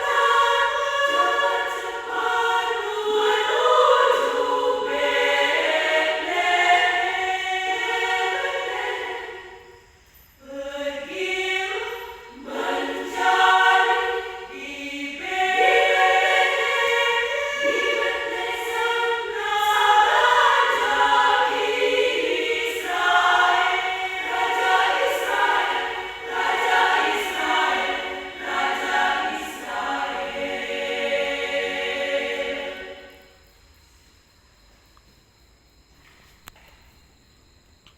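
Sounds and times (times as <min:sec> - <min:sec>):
women's choir singing: 0:00.0 - 0:33.4.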